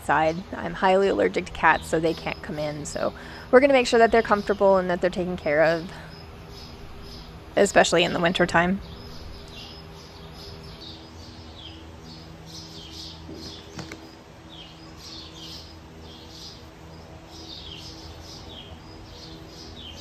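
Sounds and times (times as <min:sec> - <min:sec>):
faint low hum: 0:00.0 - 0:20.0
small birds chirping: 0:00.1 - 0:20.0.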